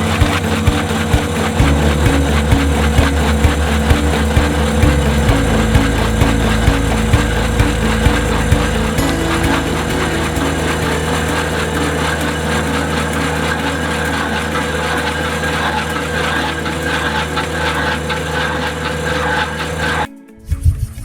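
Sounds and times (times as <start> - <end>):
loader engine running steadily: 0.0 - 20.1.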